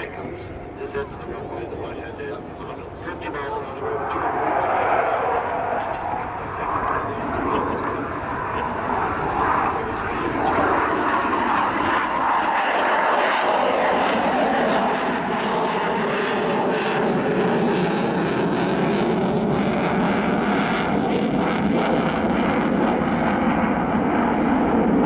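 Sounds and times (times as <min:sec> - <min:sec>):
fighter jet engine roar: 0:00.0 - 0:25.0.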